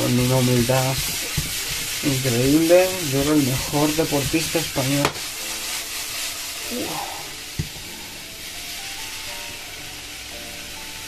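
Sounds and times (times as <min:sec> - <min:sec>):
food sizzling in oil: 0:00.0 - 0:11.0
soft background music: 0:00.0 - 0:11.0.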